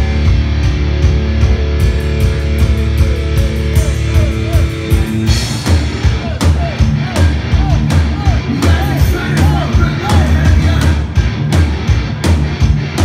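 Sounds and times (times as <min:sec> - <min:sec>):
drum hits: 0:00.0 - 0:13.0
live rock band playing: 0:00.0 - 0:13.0.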